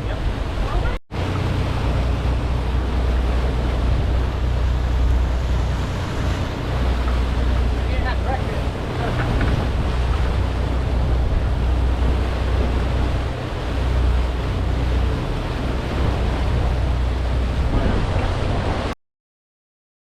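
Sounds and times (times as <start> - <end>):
boat engine drone: 0.0 - 18.9
wind on microphone: 0.0 - 18.9
rushing water: 0.0 - 19.0.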